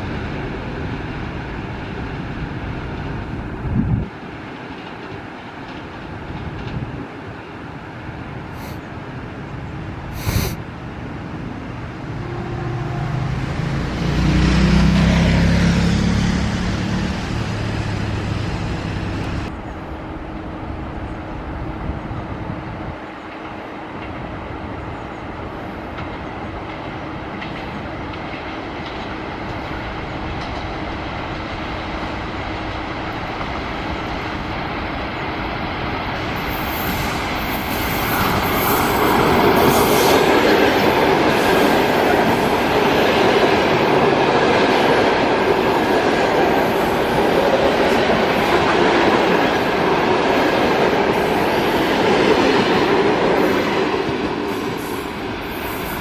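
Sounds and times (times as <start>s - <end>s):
train passing: 0.0s - 56.0s
wheels rumbling on rail: 0.0s - 56.0s.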